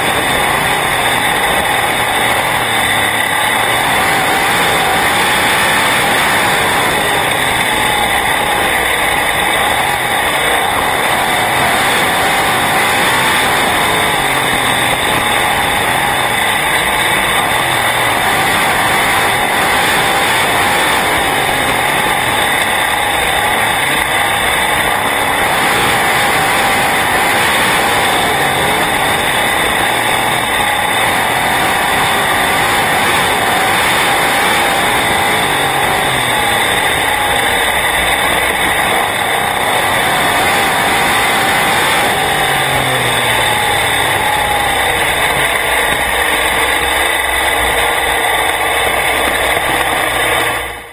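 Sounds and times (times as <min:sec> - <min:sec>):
racing car engine droning: 0:00.0 - 0:50.9.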